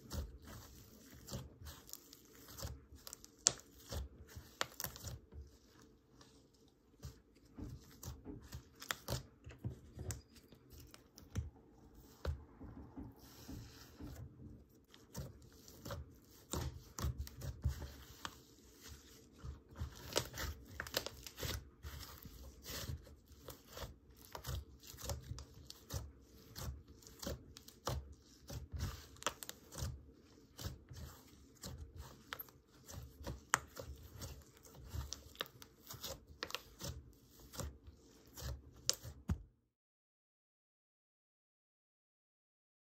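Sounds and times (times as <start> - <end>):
slime squishing: 0.0 - 39.4.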